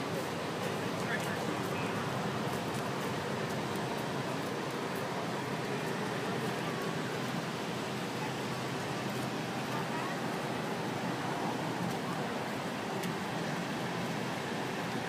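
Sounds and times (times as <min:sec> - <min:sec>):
crowd murmur: 0:00.0 - 0:15.0
street noise: 0:00.0 - 0:15.0.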